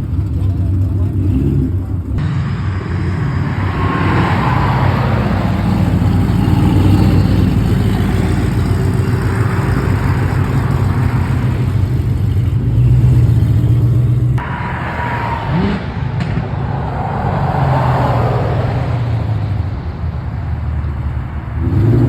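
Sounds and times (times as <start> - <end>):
car engine running loud: 0.0 - 22.0.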